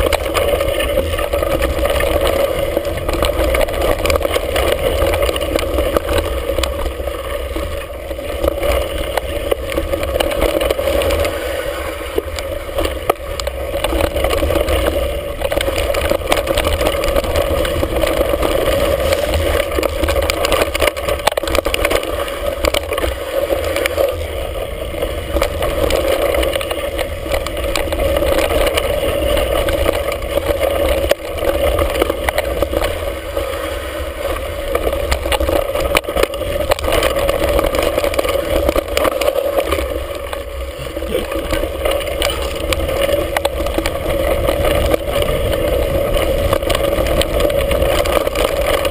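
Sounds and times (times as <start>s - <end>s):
bike tyres rattling over trail: 0.0s - 48.9s.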